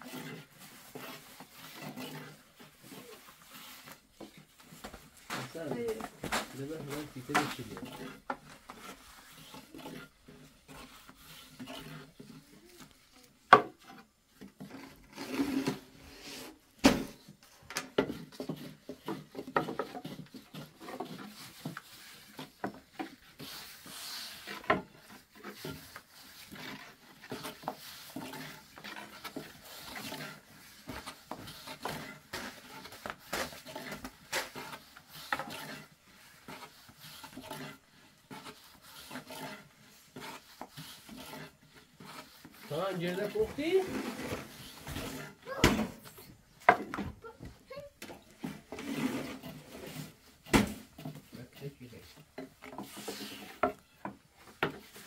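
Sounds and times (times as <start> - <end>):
rolling pin rolling dough: 0.0 - 55.0.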